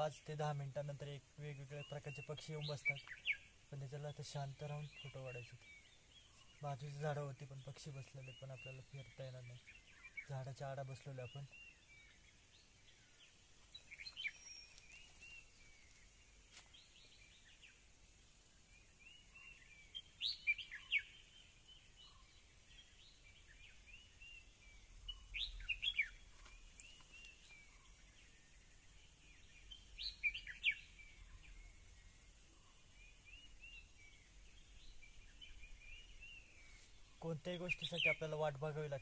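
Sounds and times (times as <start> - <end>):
faint high bird chirps: 0.0 - 17.9, 18.5 - 39.0.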